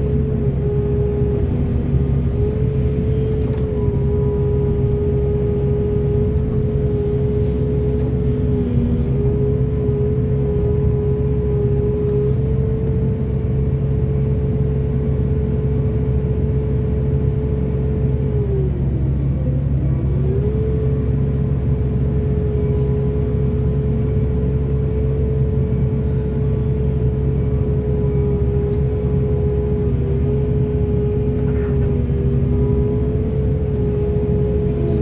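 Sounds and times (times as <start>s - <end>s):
excavator diesel engine rumbling: 0.0s - 35.0s.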